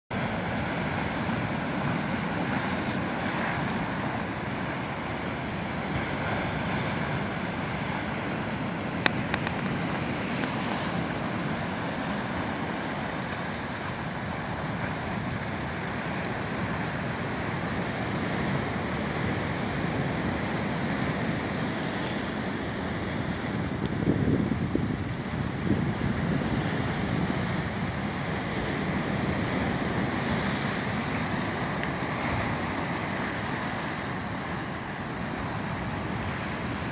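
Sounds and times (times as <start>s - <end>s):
ocean surf breaking: 0.1s - 36.9s
wind on microphone: 0.1s - 36.9s.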